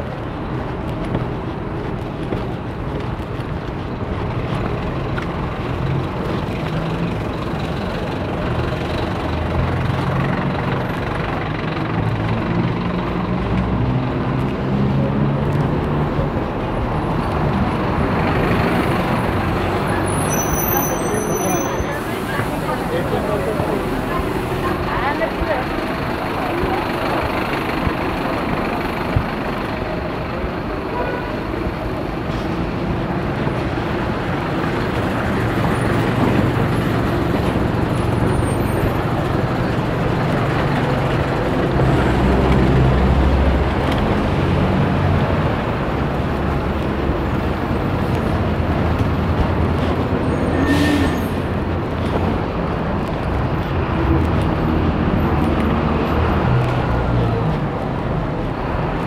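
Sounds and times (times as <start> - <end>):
passing cars and heavy vehicles: 0.0 - 59.0.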